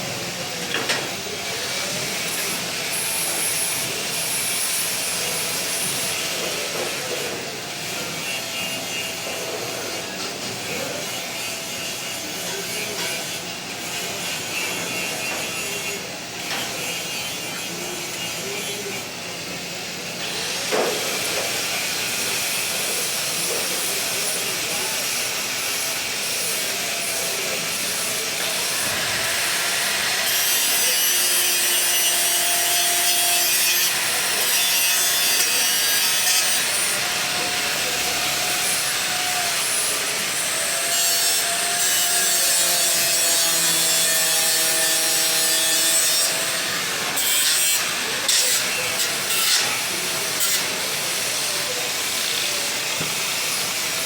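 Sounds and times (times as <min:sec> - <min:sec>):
angle grinder on steel: 0:00.0 - 0:54.0.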